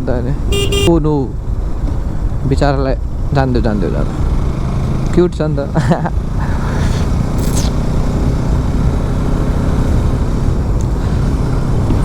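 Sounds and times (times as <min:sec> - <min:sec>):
motorcycle engine rumble: 0:00.0 - 0:12.0
road and wind noise: 0:00.0 - 0:12.0.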